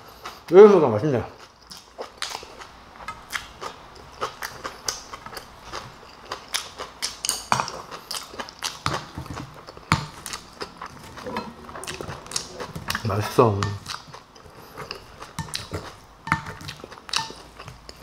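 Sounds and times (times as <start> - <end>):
person chewing food: 1.3 - 18.0.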